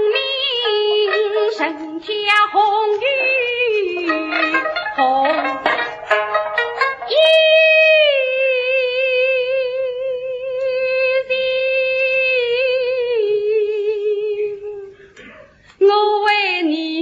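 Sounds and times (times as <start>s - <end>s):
person singing long notes: 0.0s - 15.0s.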